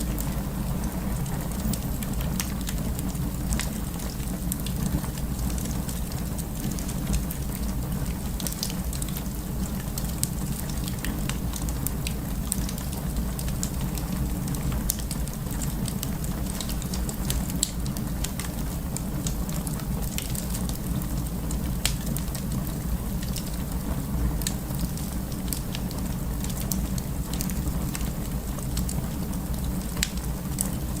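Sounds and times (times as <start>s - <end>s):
burning wood crackling: 0.0s - 31.0s.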